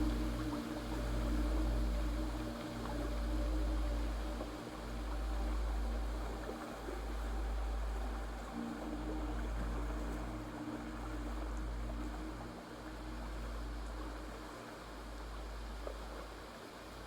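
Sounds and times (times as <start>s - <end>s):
low droning hum: 0.0s - 16.6s.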